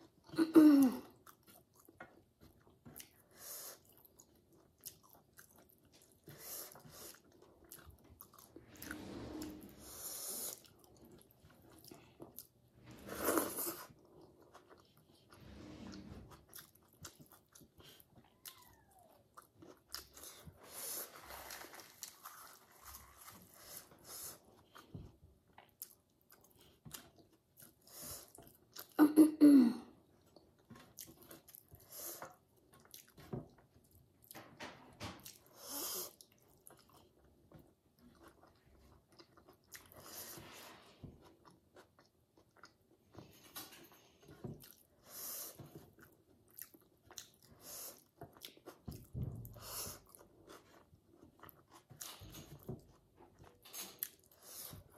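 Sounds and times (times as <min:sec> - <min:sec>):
person chewing food: 0:01.0 - 0:29.0, 0:30.0 - 0:34.5, 0:35.2 - 0:54.9.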